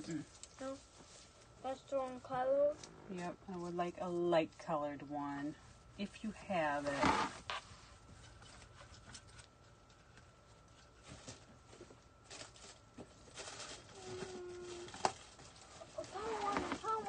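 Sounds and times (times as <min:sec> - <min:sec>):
rustling and clicks of decorations: 0:00.0 - 0:17.0.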